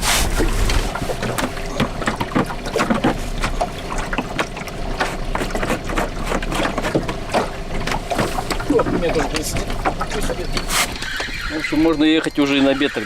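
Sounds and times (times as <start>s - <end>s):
water splashing against hull: 0.0s - 13.0s.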